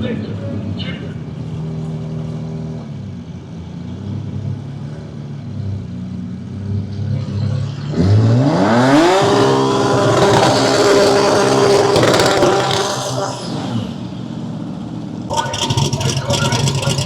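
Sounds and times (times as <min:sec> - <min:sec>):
drag car engine revving: 0:00.0 - 0:17.0.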